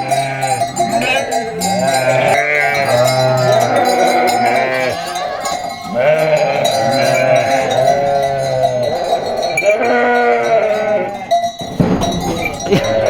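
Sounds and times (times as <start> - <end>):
sheep bleating: 0.0 - 13.0.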